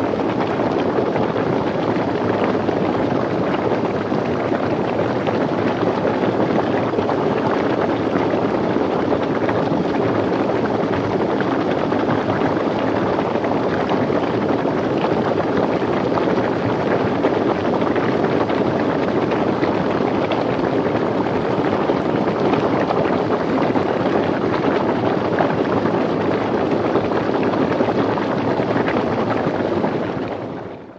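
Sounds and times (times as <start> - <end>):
bubbles bursting crackle: 0.0 - 30.9
geyser water bubbling: 0.0 - 30.9.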